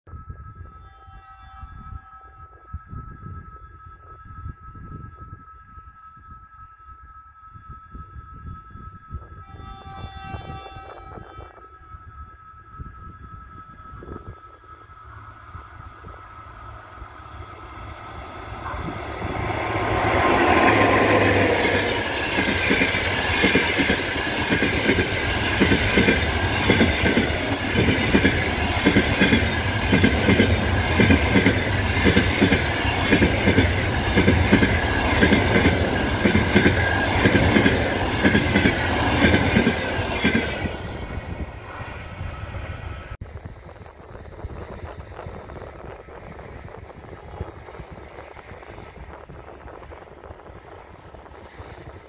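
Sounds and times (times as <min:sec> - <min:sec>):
electric locomotive passing: 0:00.1 - 0:52.0.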